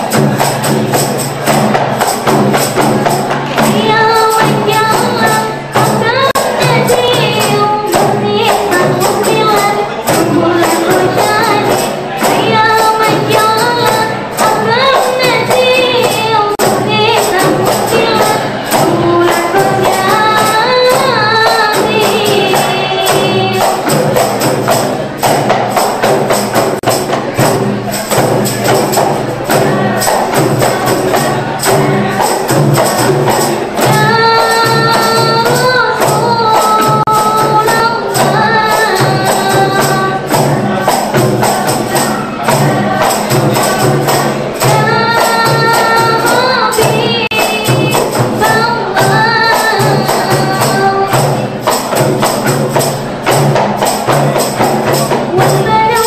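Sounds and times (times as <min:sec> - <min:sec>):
fast percussion beat: 0:00.0 - 0:56.0
girls singing devotional song: 0:00.0 - 0:56.0.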